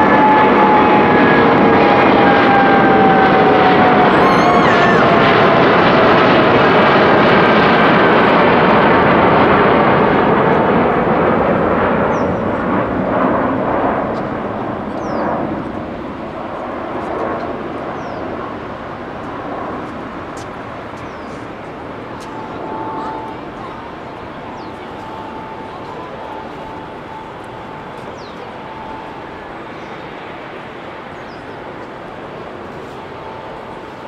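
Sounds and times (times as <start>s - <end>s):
faint jet whine falling in pitch: 0.0s - 34.0s
jet engine roar: 0.0s - 34.0s.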